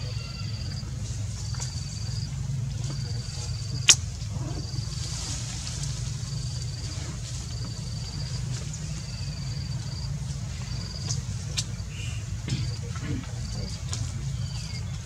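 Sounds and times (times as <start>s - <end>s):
insect trilling: 0.0s - 15.0s
steady low rumble: 0.0s - 15.0s.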